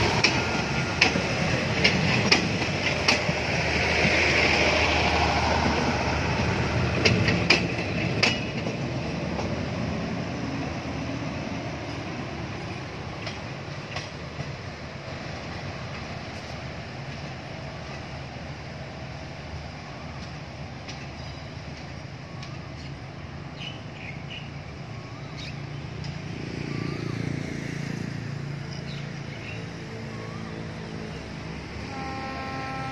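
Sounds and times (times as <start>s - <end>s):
train wheels rumbling on rails: 0.0s - 32.9s.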